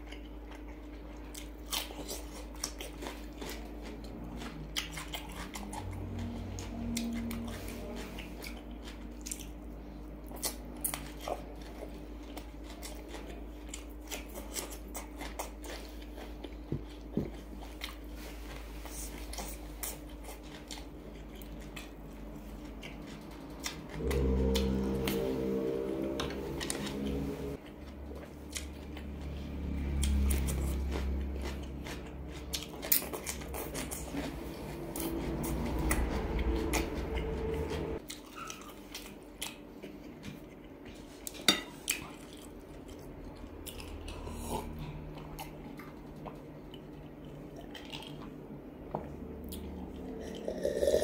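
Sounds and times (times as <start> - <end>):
close chewing: 0.0 - 51.0.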